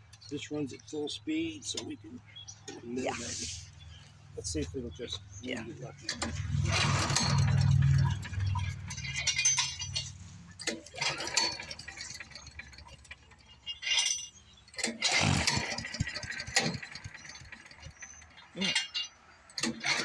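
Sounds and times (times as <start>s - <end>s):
small engine rattling cranking: 2.6s - 20.0s.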